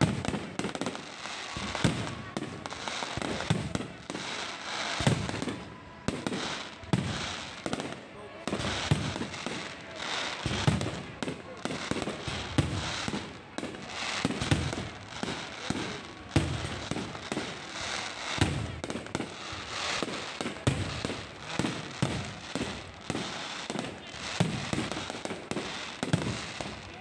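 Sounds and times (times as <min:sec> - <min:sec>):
fireworks bangs and pops: 0:00.0 - 0:27.0
fireworks crackling and hiss: 0:00.0 - 0:27.0.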